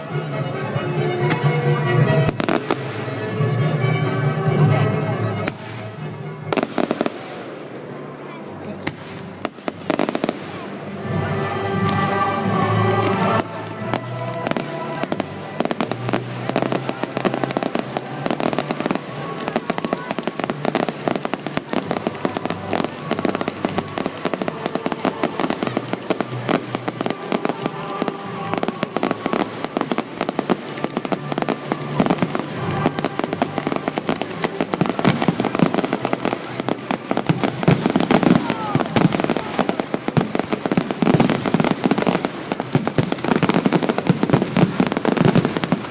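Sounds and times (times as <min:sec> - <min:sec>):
fireworks cracking and banging: 0:00.7 - 0:03.2, 0:04.6 - 0:45.9.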